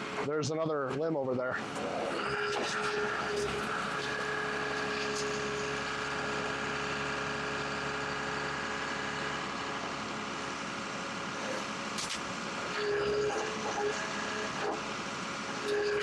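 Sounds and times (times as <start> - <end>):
steady whine: 0.0 - 16.0
heavy machine engine running: 1.6 - 16.0.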